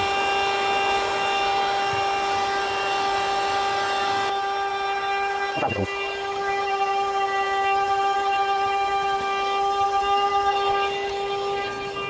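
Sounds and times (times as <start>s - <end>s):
handheld vacuum running: 0.0s - 12.0s.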